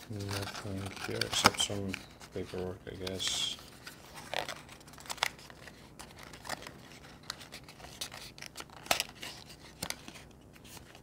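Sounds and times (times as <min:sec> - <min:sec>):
paper and cardboard rustling: 0:00.0 - 0:11.0.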